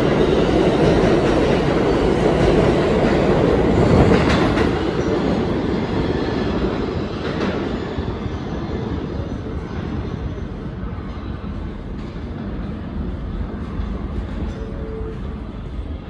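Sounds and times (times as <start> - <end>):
subway train running past: 0.0 - 16.0.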